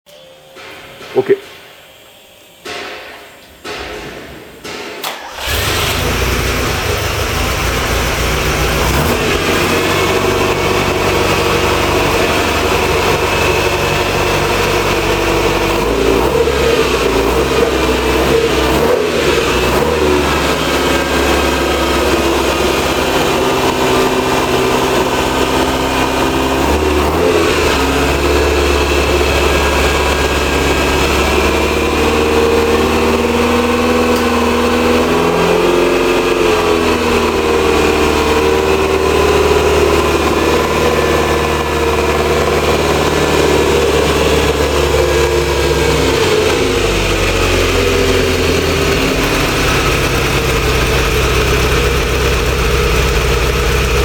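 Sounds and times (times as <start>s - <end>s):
car engine idling: 5.0s - 54.0s.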